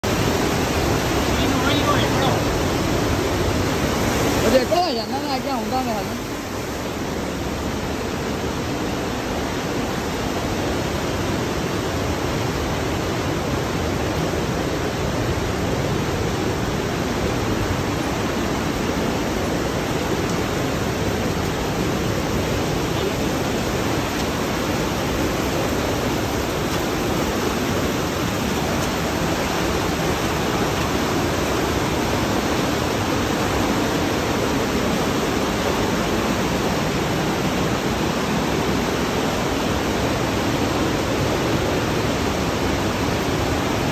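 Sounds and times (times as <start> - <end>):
river water roaring: 0.0 - 43.9.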